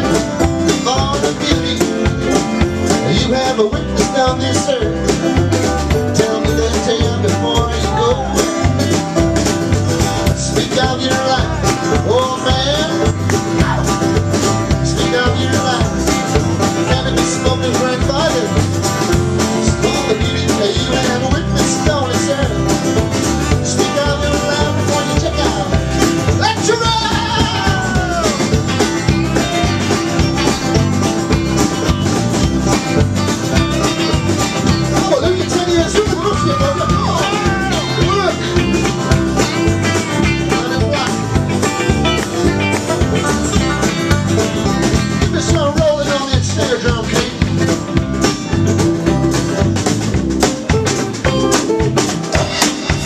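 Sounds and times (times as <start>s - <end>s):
acoustic guitar strumming: 0.0s - 53.0s
bass guitar: 0.0s - 53.0s
drums: 0.0s - 53.0s.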